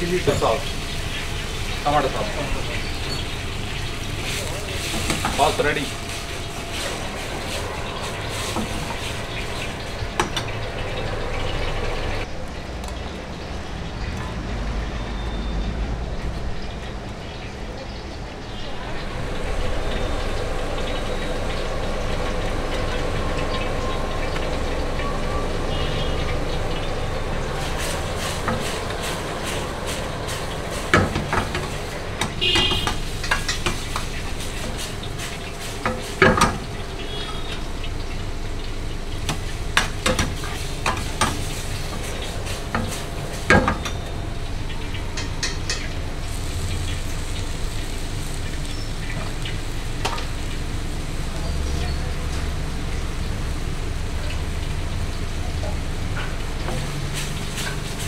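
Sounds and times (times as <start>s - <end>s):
sauce sizzling and bubbling in wok: 0.0s - 58.0s.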